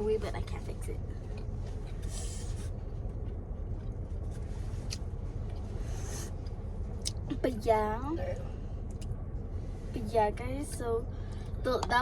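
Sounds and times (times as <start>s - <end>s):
low rumble inside car: 0.0s - 12.0s.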